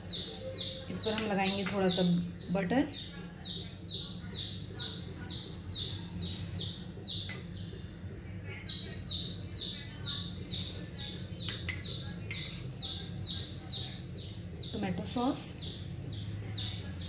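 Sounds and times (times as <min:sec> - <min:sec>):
bird chirping: 0:00.0 - 0:07.9, 0:08.5 - 0:17.0
steady low hum: 0:00.0 - 0:17.0.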